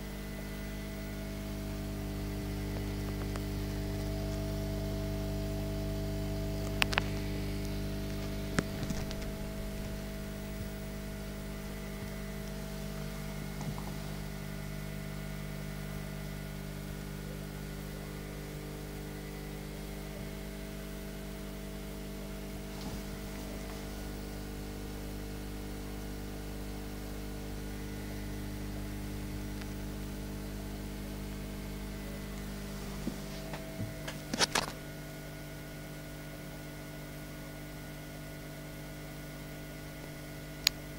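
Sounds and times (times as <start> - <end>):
aquarium pump humming: 0.0 - 40.9.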